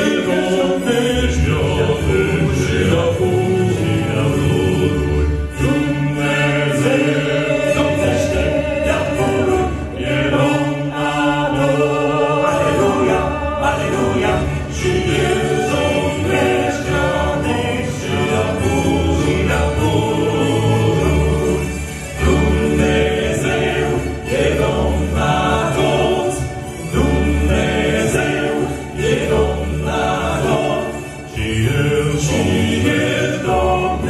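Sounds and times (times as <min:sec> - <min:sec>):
male vocal quartet singing: 0:00.0 - 0:34.0.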